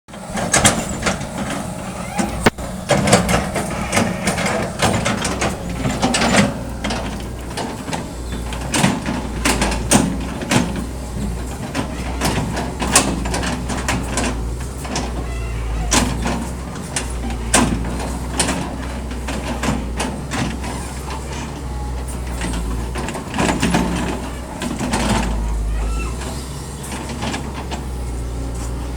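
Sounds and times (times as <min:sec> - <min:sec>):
excavator diesel engine running: 0:00.1 - 0:28.9.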